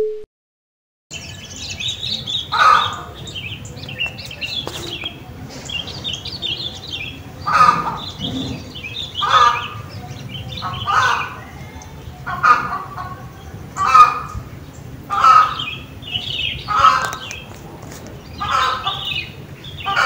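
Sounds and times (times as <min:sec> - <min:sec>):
small birds chirping: 0:01.1 - 0:20.0
poultry calls: 0:01.2 - 0:20.0.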